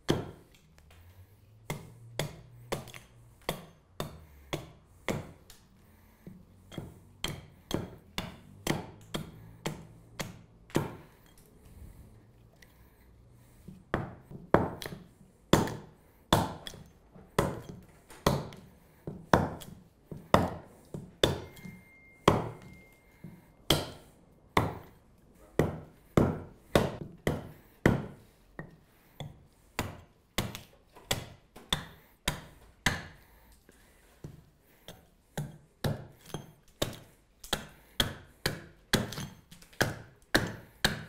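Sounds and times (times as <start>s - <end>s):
axe chopping wood: 0.0s - 1.0s, 1.6s - 11.3s, 13.5s - 25.0s, 25.6s - 33.3s, 34.2s - 41.0s.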